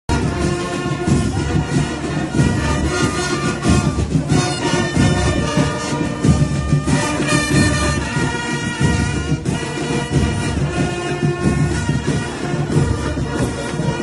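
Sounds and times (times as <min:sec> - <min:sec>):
band music with horns: 0:00.1 - 0:14.0.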